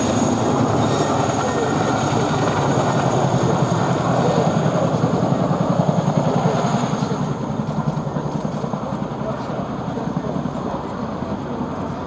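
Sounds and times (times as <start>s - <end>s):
helicopter rotors beating: 0.0s - 12.0s.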